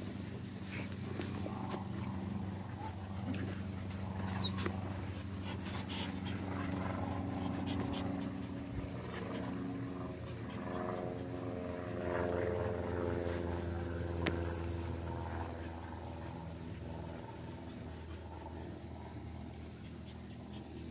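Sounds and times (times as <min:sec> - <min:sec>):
engine humming: 0:00.0 - 0:20.9.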